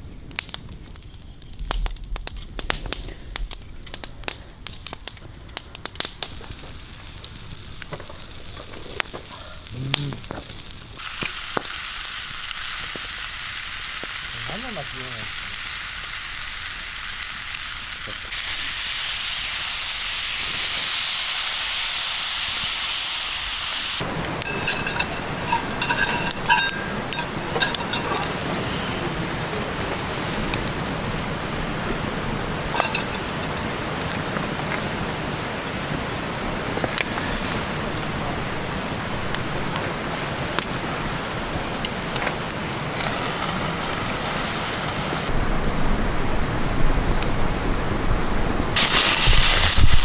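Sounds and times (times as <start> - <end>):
food sizzling in a pan: 6.3 - 45.3, 48.8 - 50.0.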